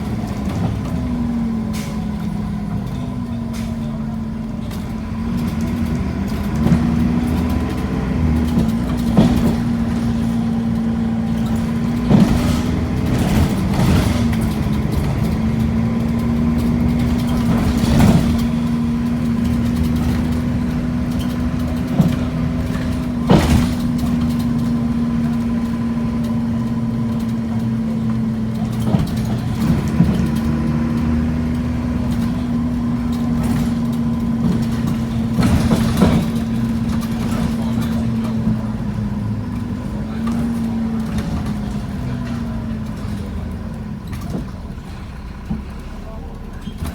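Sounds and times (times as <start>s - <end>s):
bus body knocks and rattles: 0.0s - 46.9s
bus engine drone: 0.0s - 46.9s.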